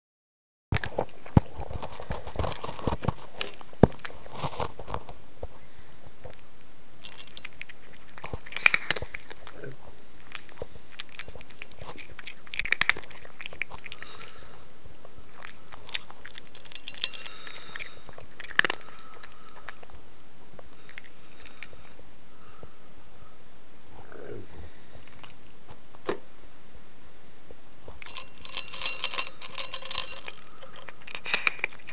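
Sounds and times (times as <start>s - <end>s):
cat crunching and chewing: 0.8s - 22.1s, 24.9s - 26.1s, 27.0s - 31.9s.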